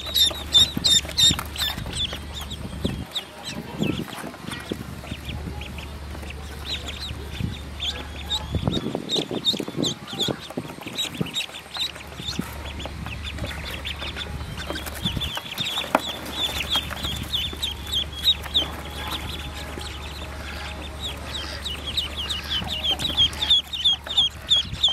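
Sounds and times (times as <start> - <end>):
ducklings peeping: 0.0 - 24.9.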